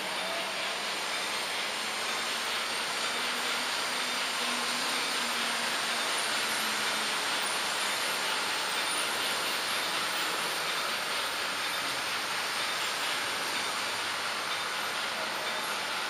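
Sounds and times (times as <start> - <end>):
model train wheels on rails: 0.0 - 16.0.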